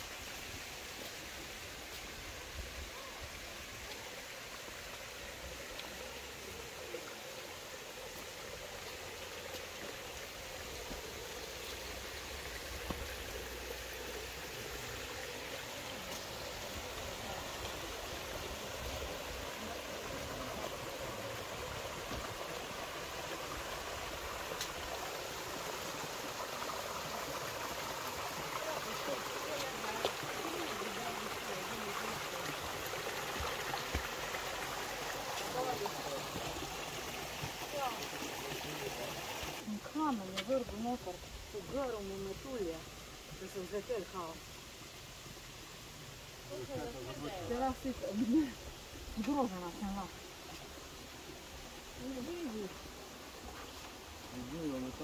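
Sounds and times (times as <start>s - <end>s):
stream splashing over stones: 0.0s - 55.0s.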